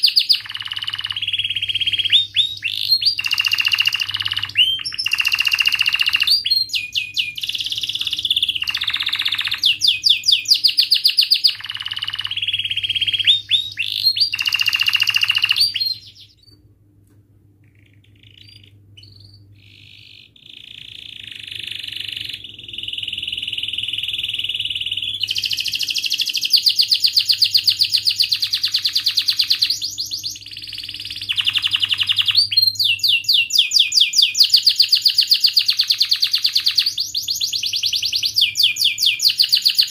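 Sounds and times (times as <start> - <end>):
canary singing trills: 0.0 - 16.6, 17.6 - 39.9.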